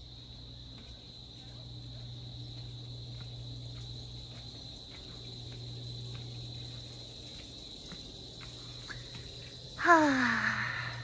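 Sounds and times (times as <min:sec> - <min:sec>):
footsteps on paved path: 0:00.0 - 0:10.3
insects droning: 0:00.0 - 0:11.0.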